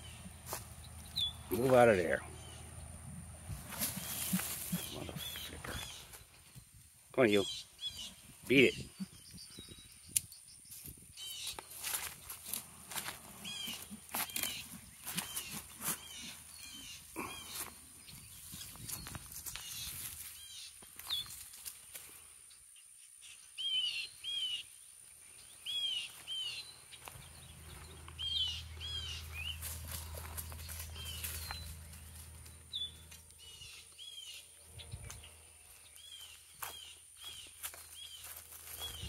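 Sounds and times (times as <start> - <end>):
bird chirping: 0.0 - 3.0, 3.9 - 6.6, 7.2 - 12.6, 13.4 - 21.4, 22.5 - 39.0
outdoor background noise: 0.0 - 39.0.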